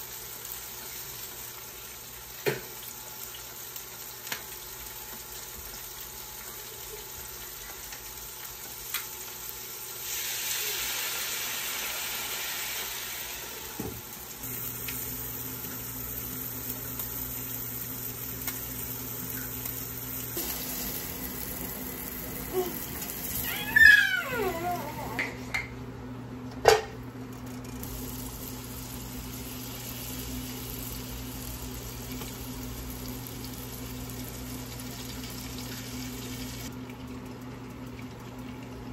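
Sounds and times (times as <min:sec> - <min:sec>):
fish frying in oil: 0:00.0 - 0:25.2, 0:27.2 - 0:38.8.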